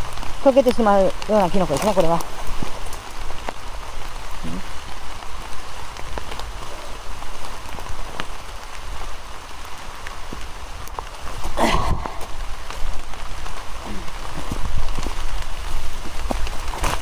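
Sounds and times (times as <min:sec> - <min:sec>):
heavy rain falling: 0:00.0 - 0:17.0
sharp clicks of raindrops: 0:00.0 - 0:17.0.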